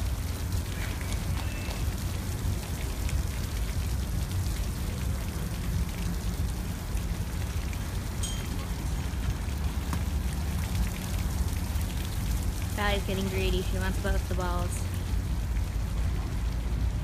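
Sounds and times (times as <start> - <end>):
water sprinklers spraying: 0.0 - 17.0.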